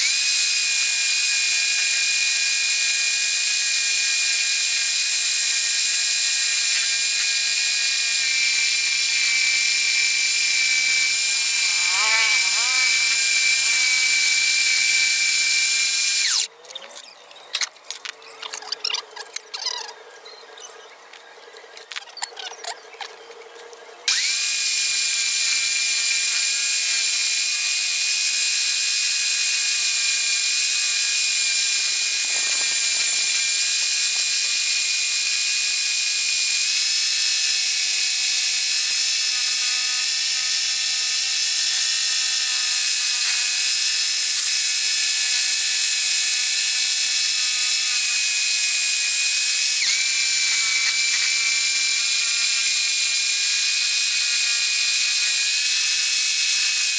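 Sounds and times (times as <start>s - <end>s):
scroll saw motor whine: 0.0s - 17.1s, 20.8s - 56.9s.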